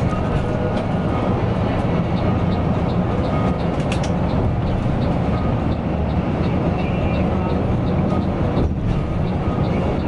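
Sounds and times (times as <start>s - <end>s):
coach engine and road rumble: 0.0s - 10.0s.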